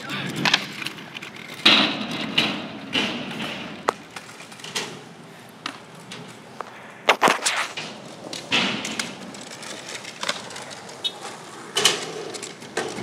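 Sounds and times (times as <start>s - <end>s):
skateboard wheels scraping: 0.0s - 13.0s
skateboard knocks and clacks: 0.3s - 5.0s, 7.1s - 13.0s.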